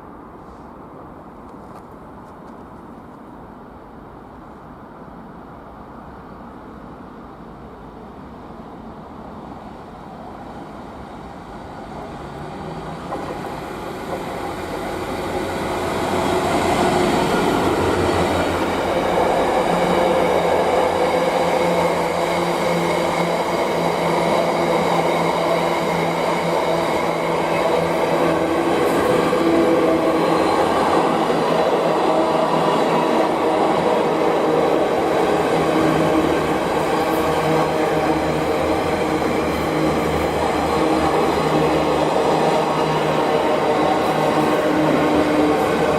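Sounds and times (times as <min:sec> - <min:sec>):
freight train passing: 0:00.0 - 0:45.9.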